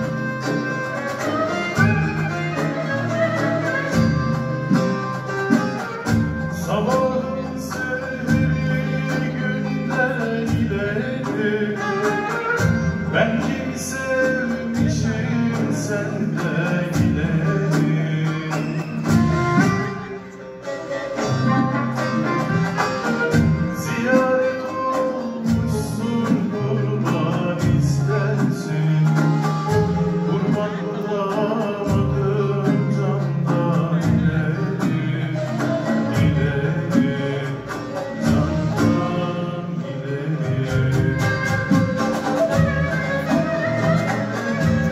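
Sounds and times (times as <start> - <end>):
box drum percussion: 0.0 - 39.8, 40.4 - 44.9
acoustic guitar: 0.0 - 44.9
plucked lute: 0.0 - 44.9.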